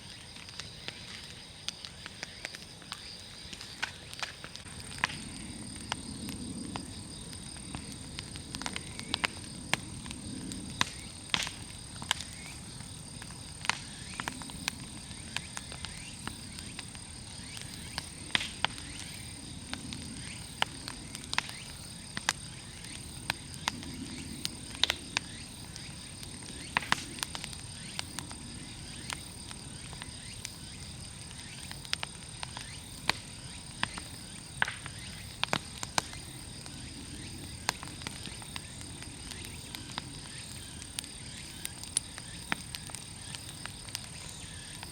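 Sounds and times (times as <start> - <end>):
bonfire crackling: 0.0 - 44.9
burning logs popping: 0.0 - 44.9
low rumble of flame: 0.0 - 44.9.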